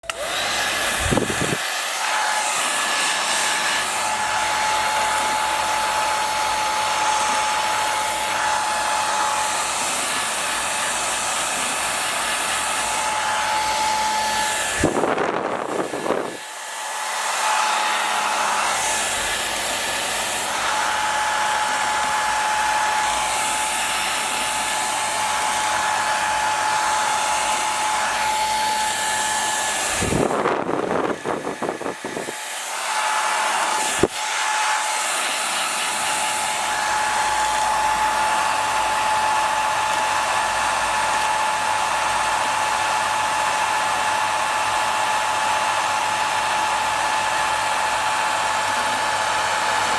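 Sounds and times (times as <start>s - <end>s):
hair dryer click: 0.0s - 43.0s
hair dryer running: 0.0s - 49.9s.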